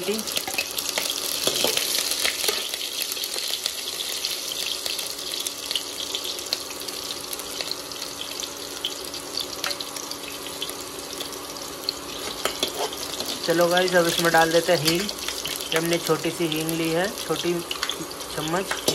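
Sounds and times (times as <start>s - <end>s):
spices sizzling in hot oil: 0.0s - 18.9s.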